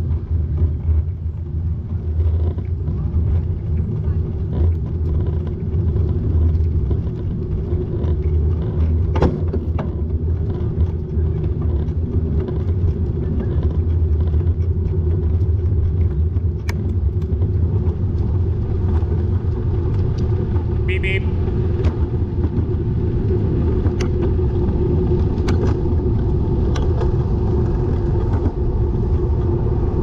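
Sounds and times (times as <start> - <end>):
bike riding road rumble: 0.0 - 30.0
wind noise: 0.0 - 30.0.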